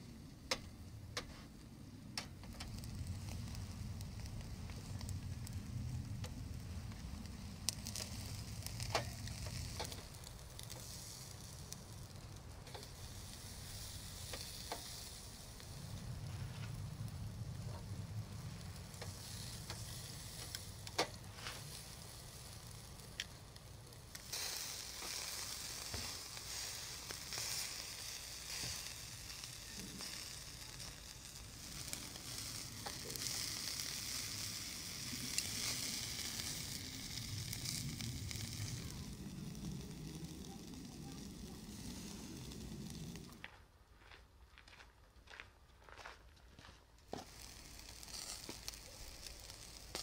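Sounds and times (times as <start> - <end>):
steak sizzling on a grill: 2.5 - 43.4, 47.1 - 50.0.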